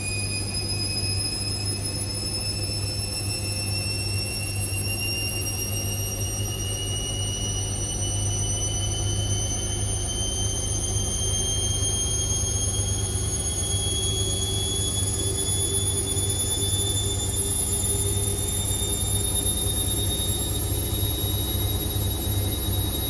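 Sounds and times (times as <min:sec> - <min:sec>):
washing machine motor whining: 0:00.0 - 0:23.0.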